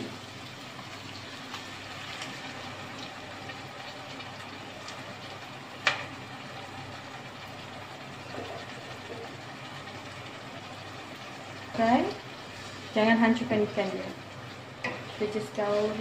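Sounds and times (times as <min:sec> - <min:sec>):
onions sizzling: 0:00.0 - 0:16.0.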